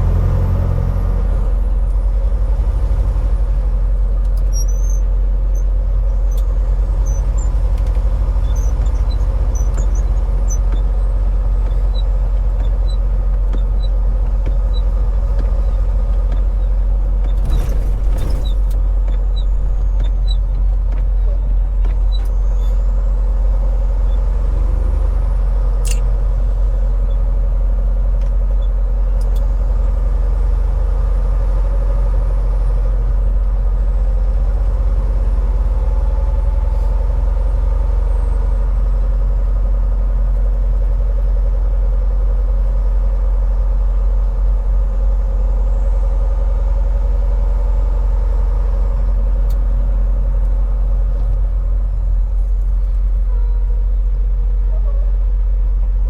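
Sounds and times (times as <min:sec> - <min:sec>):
diesel engine drone: 0:00.0 - 0:56.0
road rumble: 0:00.0 - 0:56.0.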